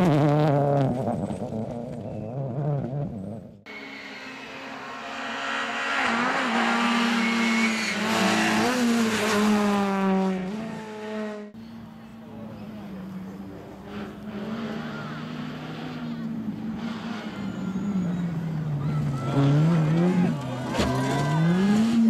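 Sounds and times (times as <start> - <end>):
rally car engine pulling away: 0.0 - 11.4, 12.5 - 22.0
rally car engine approaching: 0.0 - 22.0.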